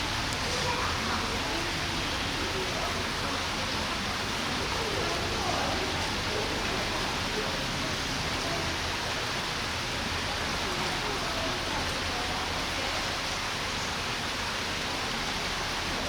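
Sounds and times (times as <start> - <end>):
faint voices murmuring: 0.0 - 16.0.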